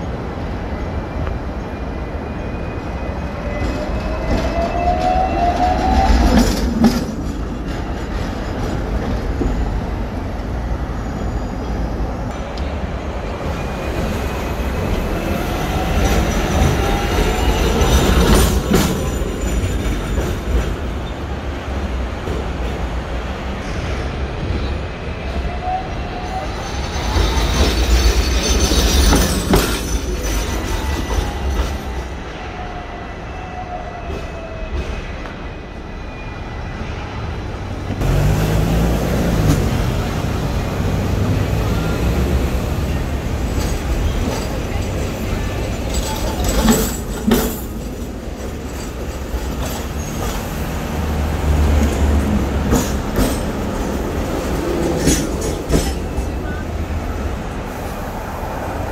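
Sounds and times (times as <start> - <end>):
steel wheels rumbling on rails: 0.0 - 33.2, 36.8 - 58.9.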